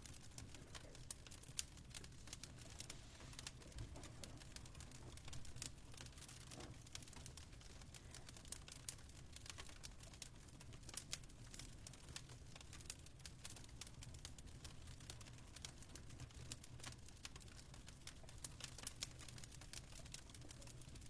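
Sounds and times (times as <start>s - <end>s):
fireplace crackling: 0.0s - 21.0s.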